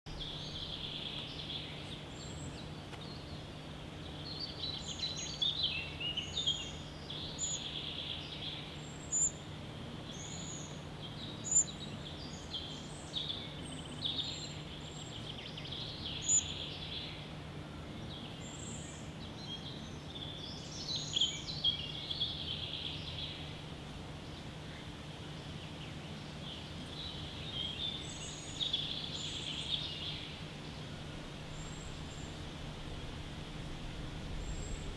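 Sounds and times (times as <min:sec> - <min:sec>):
small birds chirping: 0:00.1 - 0:34.9
steady low hum: 0:00.1 - 0:34.9.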